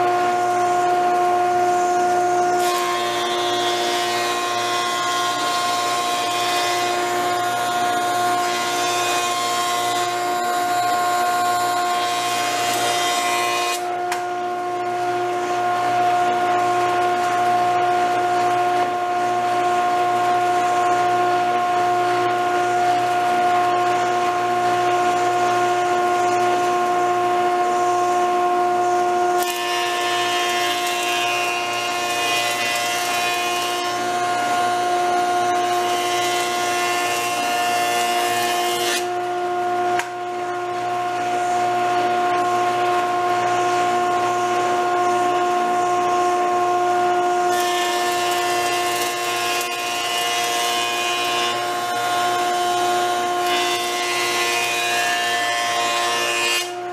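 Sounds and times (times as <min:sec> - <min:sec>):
jointer motor whine: 0:00.0 - 0:56.9.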